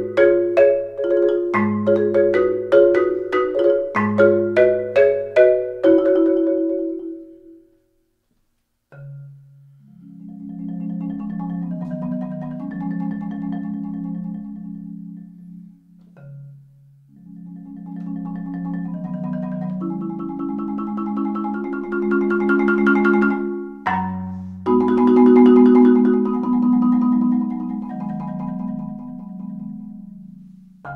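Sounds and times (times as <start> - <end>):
marimba played with mallets: 0.0 - 7.7, 8.9 - 30.9.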